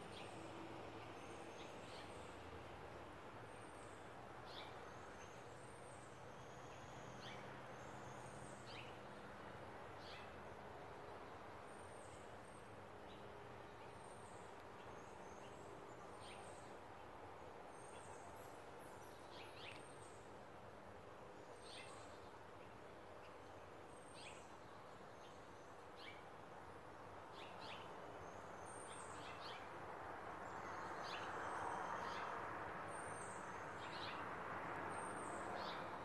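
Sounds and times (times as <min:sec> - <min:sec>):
small birds chirping: 0:01.1 - 0:09.3, 0:09.9 - 0:20.4, 0:21.2 - 0:26.5, 0:27.1 - 0:29.7, 0:32.9 - 0:34.2, 0:34.8 - 0:36.0.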